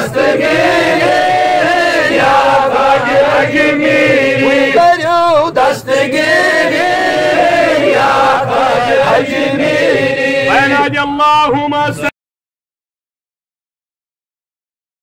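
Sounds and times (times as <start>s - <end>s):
men chanting devotional song: 0.0s - 12.1s.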